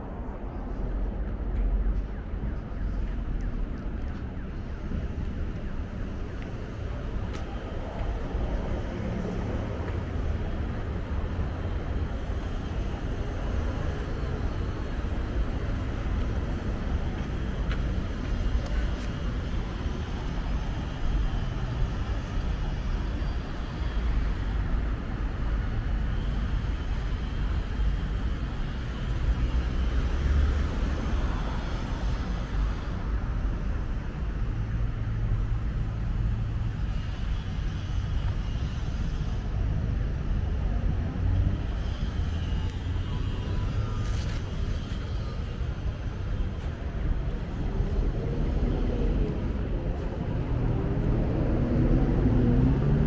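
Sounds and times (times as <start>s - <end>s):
road traffic: 0.0s - 53.0s.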